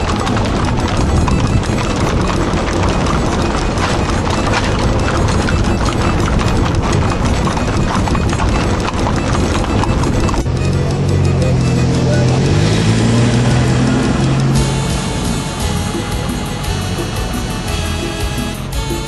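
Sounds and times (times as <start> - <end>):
horse hooves on paved road: 0.0 - 19.0.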